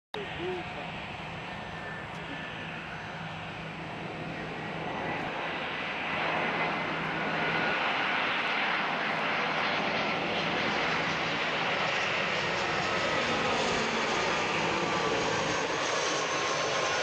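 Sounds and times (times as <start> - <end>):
jet engines rushing: 0.2 - 17.0.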